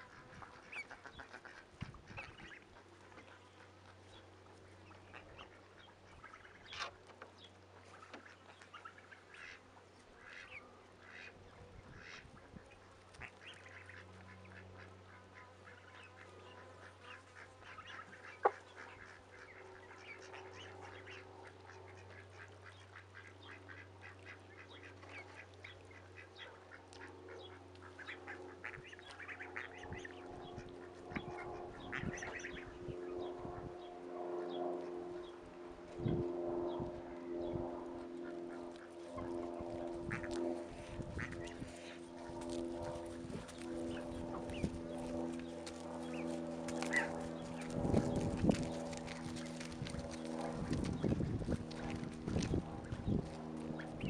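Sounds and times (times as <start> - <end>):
ducks and geese quacking and honking: 0.0 - 35.3, 36.0 - 54.0
steady low hum: 0.0 - 54.0.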